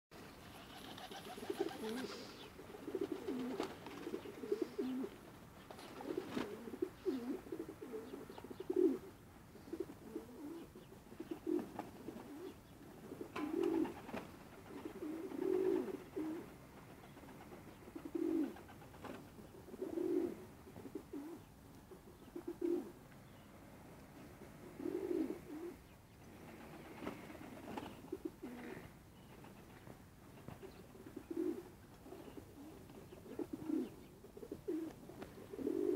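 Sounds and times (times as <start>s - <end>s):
pigeons cooing: 0.3s - 23.0s, 24.2s - 29.0s, 30.5s - 35.9s.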